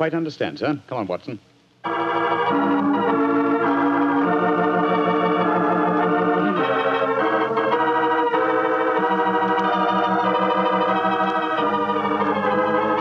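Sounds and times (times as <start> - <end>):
organ chords: 1.8 - 13.0.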